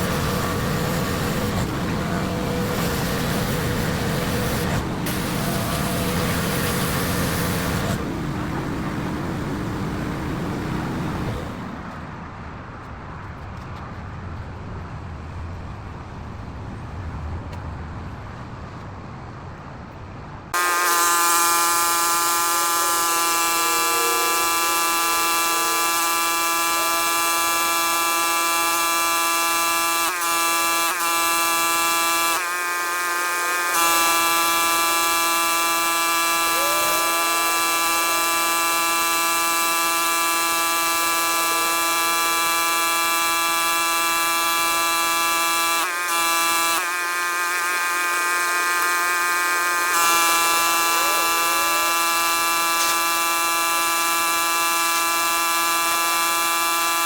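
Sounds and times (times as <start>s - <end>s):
pressure washer buzzing drone: 0.0s - 12.0s, 20.6s - 57.0s.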